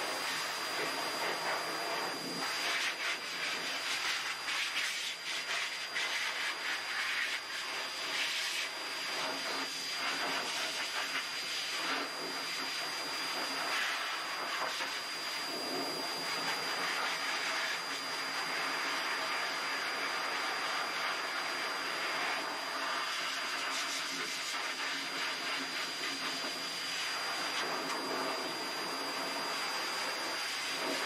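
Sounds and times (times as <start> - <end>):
dog dryer blowing air: 0.0 - 31.0.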